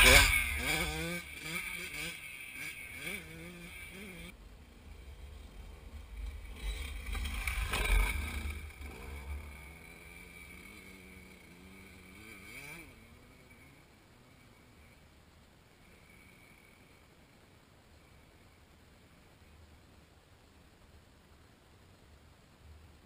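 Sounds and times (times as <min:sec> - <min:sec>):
distant dirt bike engines revving: 0:00.0 - 0:19.9.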